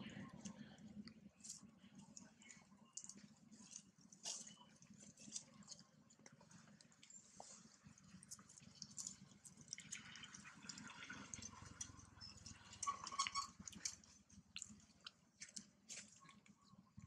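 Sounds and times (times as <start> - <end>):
faint soft clicks and ticks: 0.0 - 17.0.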